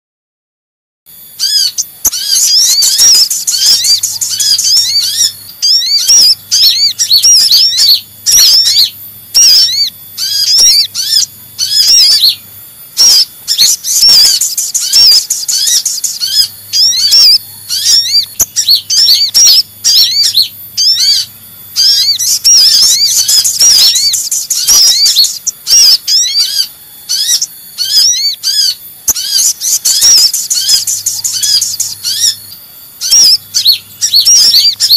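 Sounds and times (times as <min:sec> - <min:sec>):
sunbirds chirping rapidly: 0:01.1 - 0:34.9.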